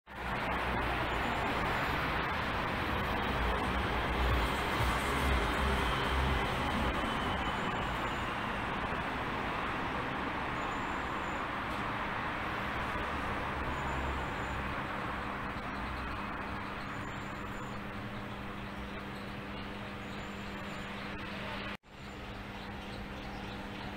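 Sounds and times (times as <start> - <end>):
street traffic rumble: 0.1 - 23.9.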